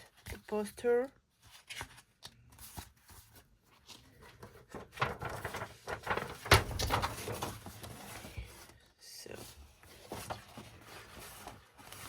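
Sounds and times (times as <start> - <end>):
paper rustling and crackling: 1.3 - 12.0.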